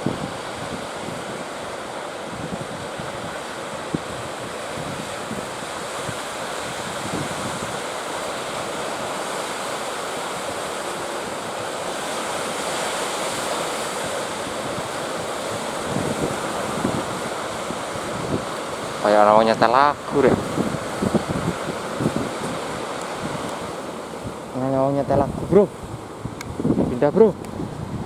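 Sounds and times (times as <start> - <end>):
sea surf rushing: 0.0 - 28.0
wind buffeting microphone: 0.0 - 28.0.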